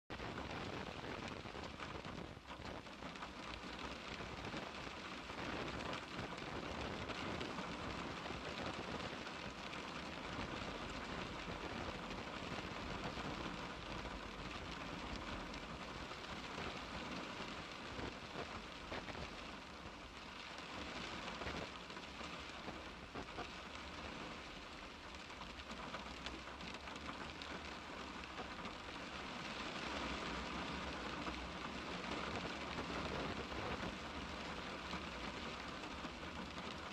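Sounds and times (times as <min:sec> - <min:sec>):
rain pattering on car glass: 0:00.1 - 0:36.9.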